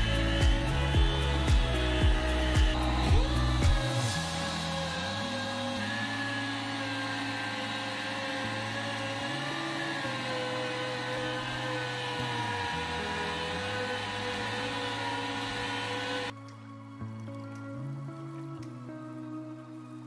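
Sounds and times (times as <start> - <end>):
electric polisher motor whine: 0.0 - 16.4.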